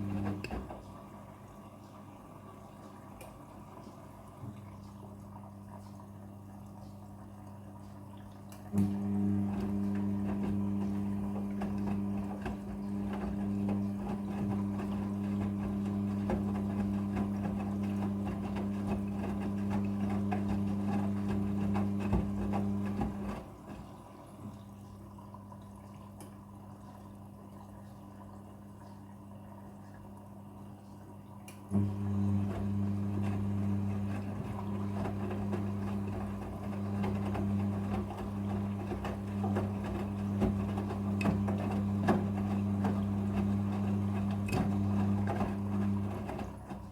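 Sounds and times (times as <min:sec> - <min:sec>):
washing machine hum: 0:00.0 - 0:46.9.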